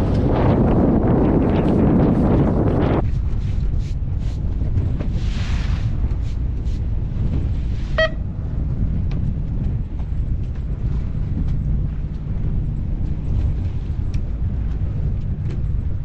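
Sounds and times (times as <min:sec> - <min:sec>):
boat engine rumbling: 0:00.0 - 0:16.0
wind buffeting microphone: 0:00.0 - 0:16.0.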